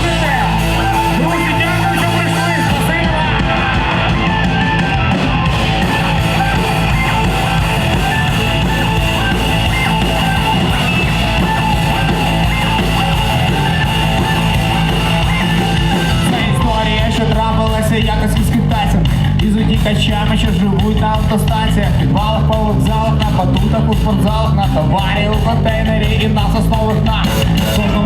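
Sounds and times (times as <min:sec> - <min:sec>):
bass guitar: 0:00.0 - 0:28.0
distorted electric guitars: 0:00.0 - 0:28.0
drum kit: 0:00.0 - 0:28.0.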